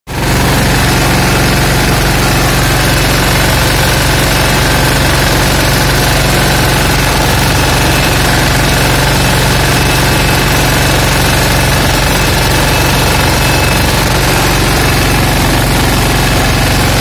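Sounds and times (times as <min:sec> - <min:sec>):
tractor engine running: 0:00.1 - 0:17.0.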